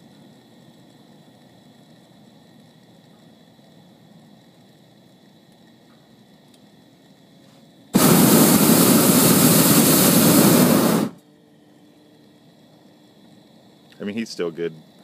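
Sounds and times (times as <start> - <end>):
propane burner rushing hiss: 0.0 - 15.0.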